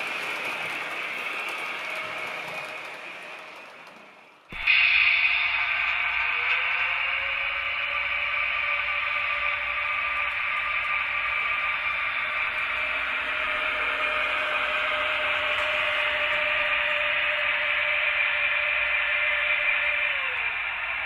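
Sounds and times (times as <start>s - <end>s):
model locomotive running sound: 0.0s - 21.0s.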